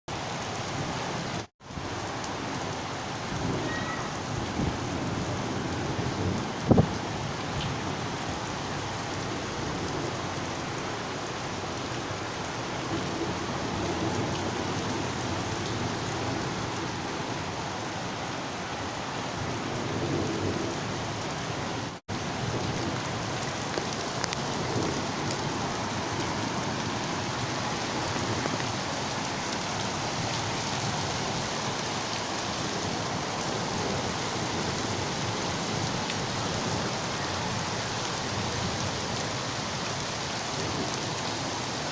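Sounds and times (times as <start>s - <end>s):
heavy rain pouring: 0.1s - 41.9s.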